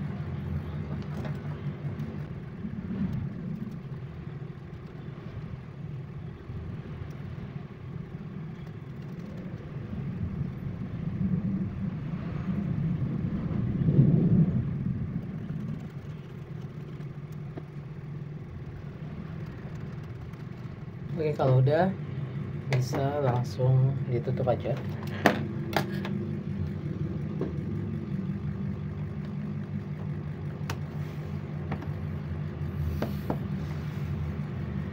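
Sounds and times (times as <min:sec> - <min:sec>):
low background rumble: 0:00.0 - 0:34.9.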